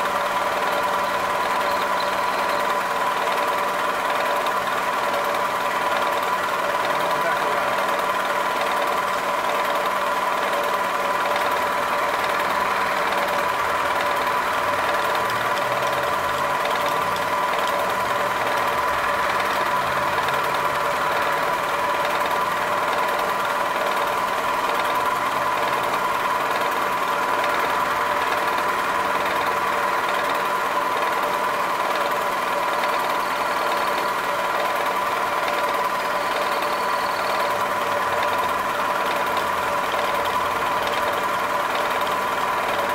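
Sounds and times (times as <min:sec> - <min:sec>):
milling machine cutting metal: 0:00.0 - 0:42.9.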